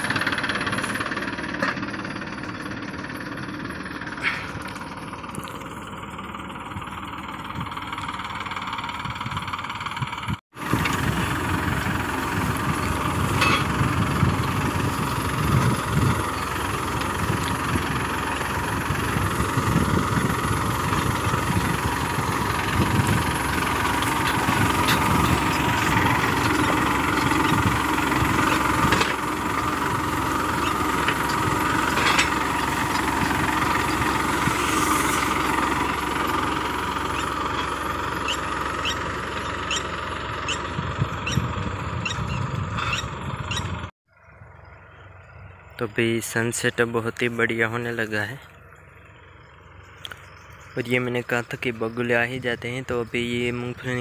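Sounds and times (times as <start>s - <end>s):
tractor diesel engine chugging: 0.0s - 54.0s.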